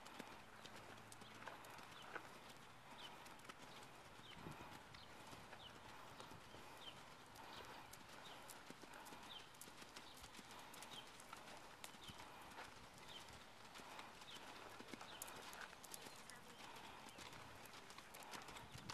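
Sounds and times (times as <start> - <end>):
hoofbeats on sand: 0.0 - 18.9.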